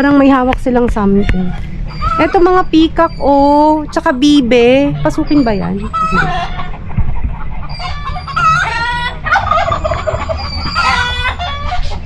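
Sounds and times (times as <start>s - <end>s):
farm fowl calling: 1.1s - 12.0s.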